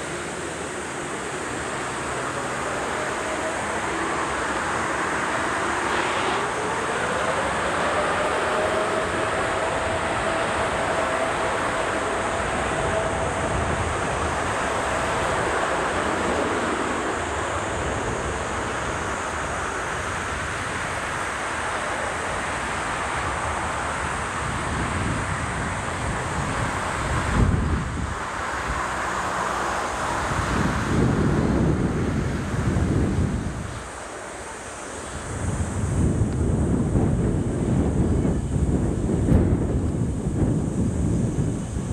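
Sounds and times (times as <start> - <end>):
jet engines roaring: 0.0 - 41.9
wind buffeting microphone: 0.0 - 41.9.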